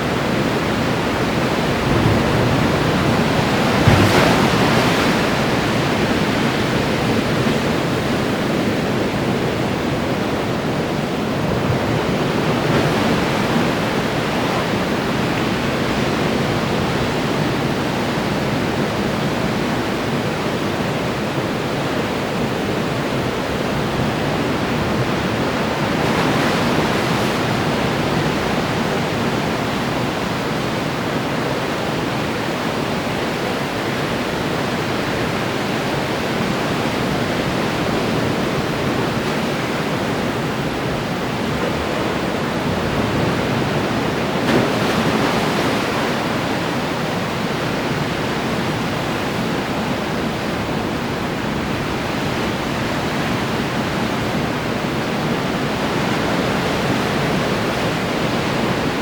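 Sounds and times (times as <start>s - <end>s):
ocean surf breaking on shore: 0.0s - 59.0s.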